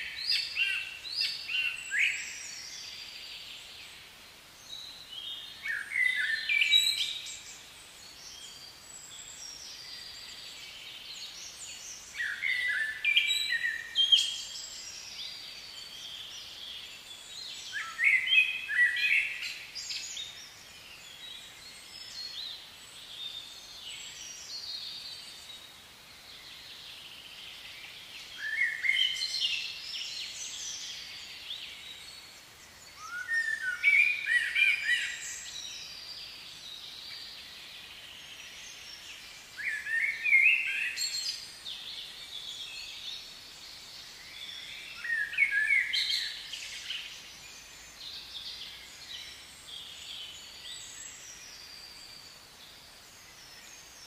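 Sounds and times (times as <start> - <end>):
faint outdoor hiss: 0.0 - 54.0
songbird singing: 0.0 - 54.0.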